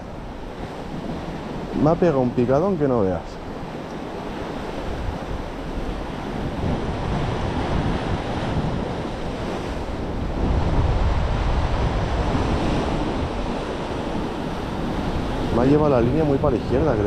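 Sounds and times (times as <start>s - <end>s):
sea surf washing onto shore: 0.0s - 17.0s
wind buffeting microphone: 0.0s - 17.0s.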